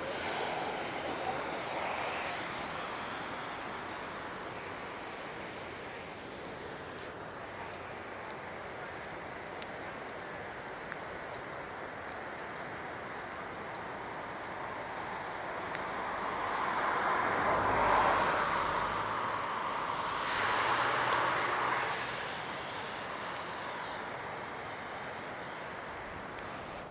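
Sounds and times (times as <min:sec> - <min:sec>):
tyres hissing on wet road: 0:00.0 - 0:26.9.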